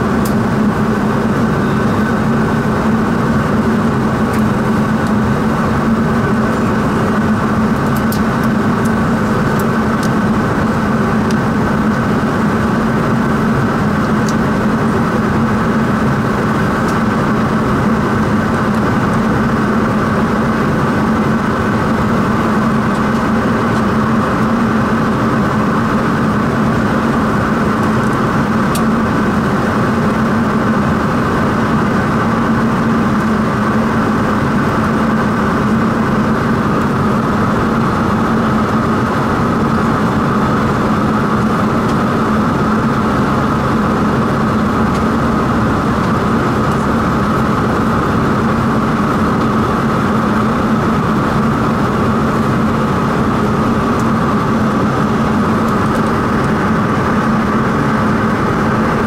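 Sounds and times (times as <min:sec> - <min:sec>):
turboprop engine drone: 0:00.0 - 0:59.0.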